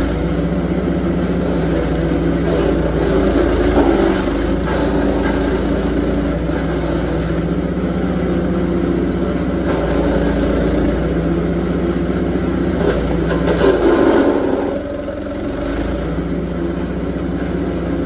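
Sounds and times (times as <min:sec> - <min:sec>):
garden chipper shredding branches: 0:00.0 - 0:18.0.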